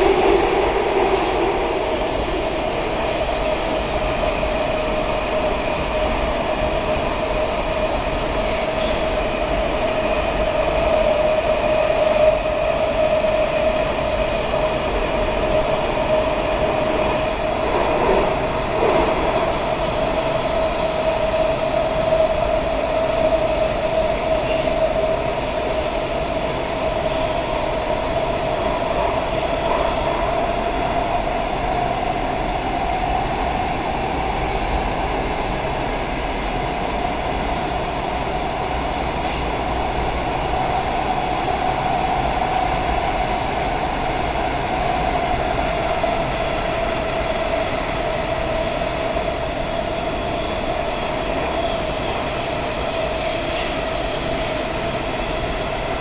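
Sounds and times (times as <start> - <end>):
train rumble and rail noise: 0.0 - 56.0.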